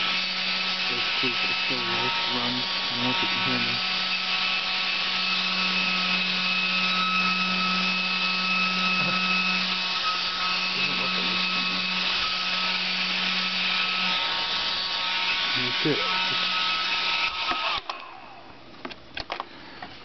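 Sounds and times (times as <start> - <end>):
hair dryer motor whine: 0.0 - 18.5.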